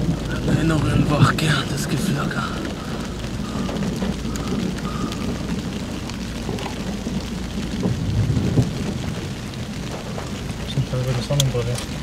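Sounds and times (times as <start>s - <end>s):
distant thunder rumbling: 0.0s - 12.0s
rain hissing: 0.0s - 12.0s.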